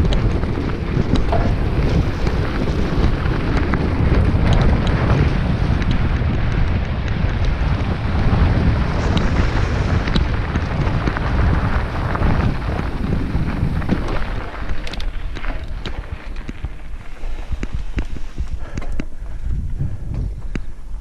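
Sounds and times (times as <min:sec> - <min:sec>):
tyres rumbling over dirt: 0:00.0 - 0:20.3
bike clicks and rattles: 0:00.0 - 0:21.0
wind buffeting microphone: 0:00.0 - 0:21.0.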